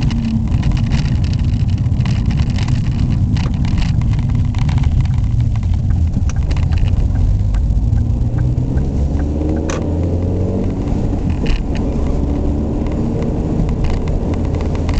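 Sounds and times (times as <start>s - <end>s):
car engine running: 0.0s - 14.9s
road rumble: 0.0s - 14.9s.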